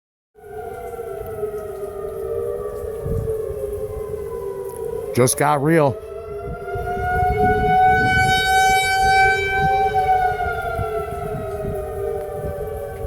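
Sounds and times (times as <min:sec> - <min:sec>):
warning siren wailing: 0:00.4 - 0:13.0.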